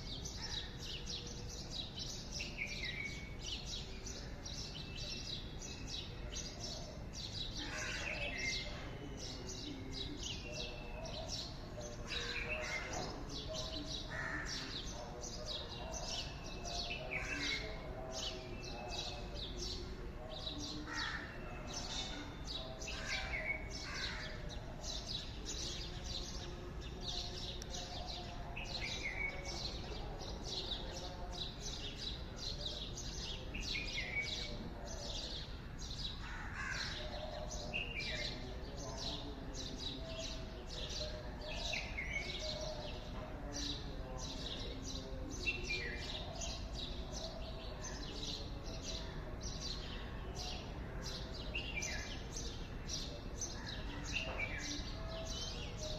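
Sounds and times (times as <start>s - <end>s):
birds chirping chorus: 0.0s - 55.9s.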